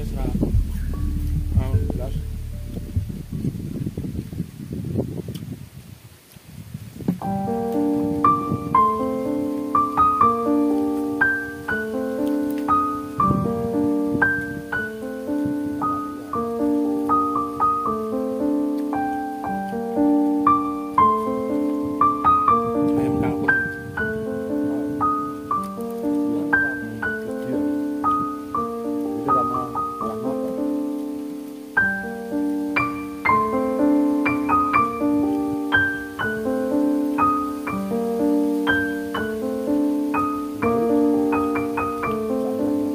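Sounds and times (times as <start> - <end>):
slow piano melody: 0.0 - 4.7, 7.2 - 42.9.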